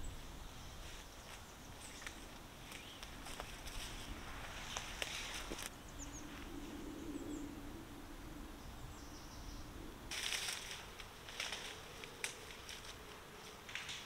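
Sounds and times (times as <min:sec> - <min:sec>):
ivy and twigs rustling and crackling: 0:00.0 - 0:07.3, 0:10.0 - 0:14.0
low steady hum: 0:00.0 - 0:14.0.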